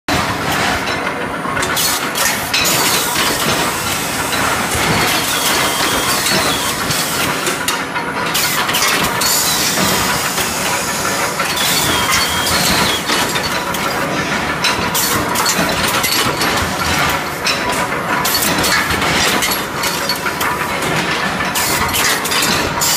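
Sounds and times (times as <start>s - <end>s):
loud mechanical din: 0.1s - 19.9s.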